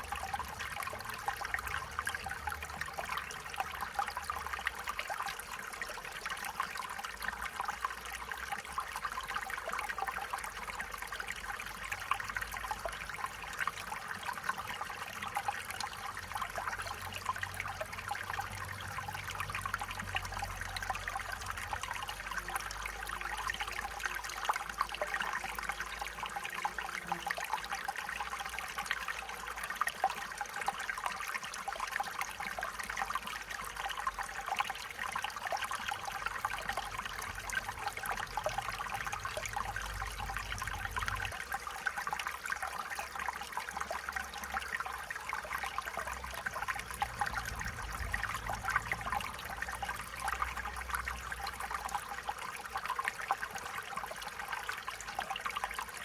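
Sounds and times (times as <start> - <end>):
stream trickling over stones: 0.0 - 56.0.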